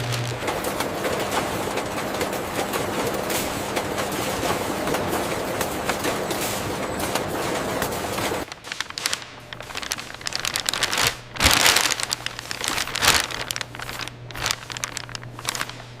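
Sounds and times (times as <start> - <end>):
crinkling handling noise: 0.0 - 16.0
faint machine hum: 0.0 - 16.0.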